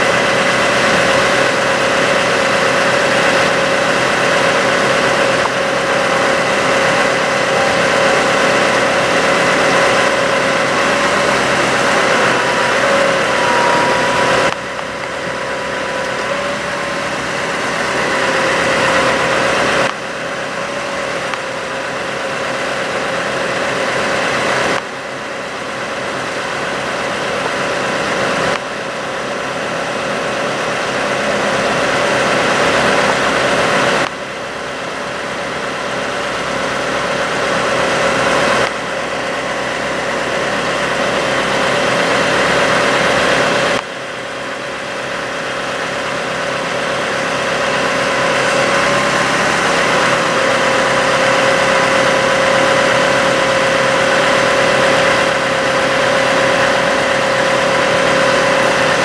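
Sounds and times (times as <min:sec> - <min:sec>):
steady whine: 0:00.0 - 0:59.0
truck engine running: 0:00.0 - 0:59.0.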